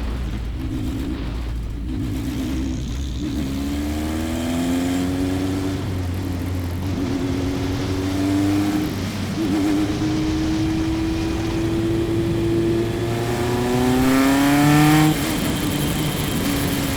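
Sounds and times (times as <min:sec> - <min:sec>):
race car engine: 0:00.0 - 0:16.9.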